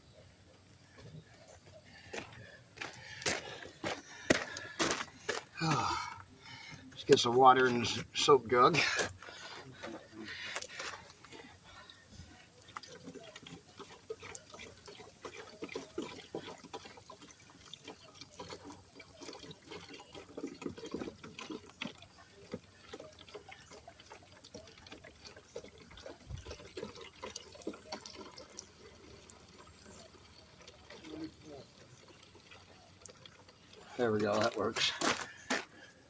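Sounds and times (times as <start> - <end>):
water trickling into jug: 0.8 - 36.0.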